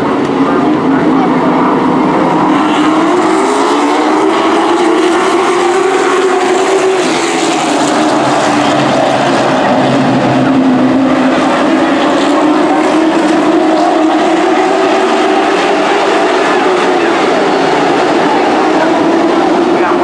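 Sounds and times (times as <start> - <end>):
trucks racing past: 0.0 - 20.0.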